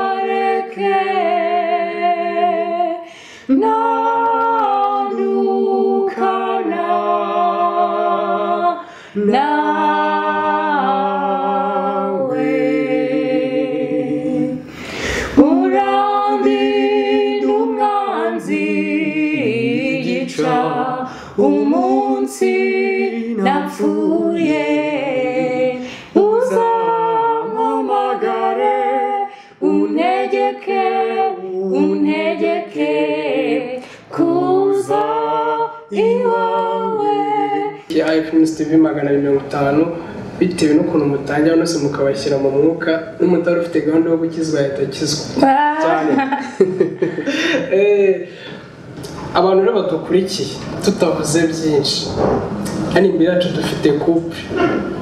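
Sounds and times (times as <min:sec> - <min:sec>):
man and woman singing a cappella: 0:00.0 - 0:42.5, 0:43.2 - 0:49.6.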